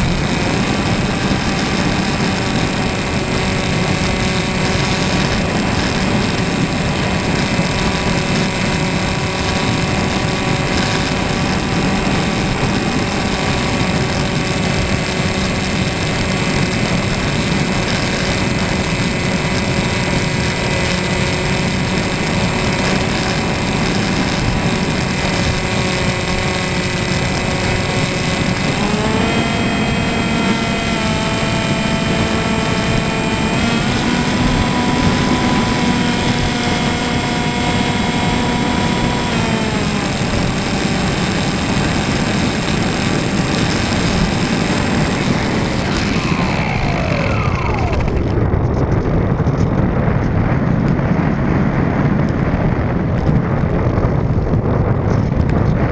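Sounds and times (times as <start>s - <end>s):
model plane motor whine: 0.0s - 55.9s.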